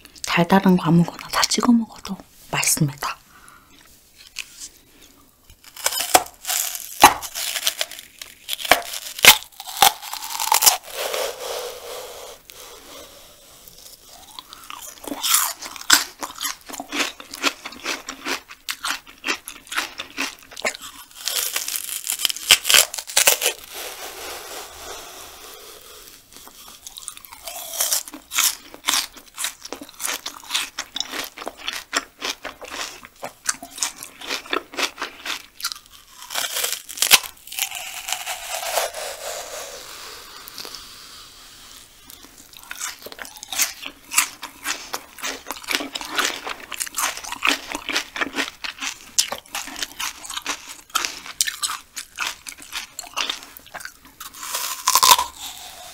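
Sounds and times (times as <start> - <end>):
crunching and chewing: 3.7 - 11.3, 12.5 - 41.1, 41.7 - 55.9.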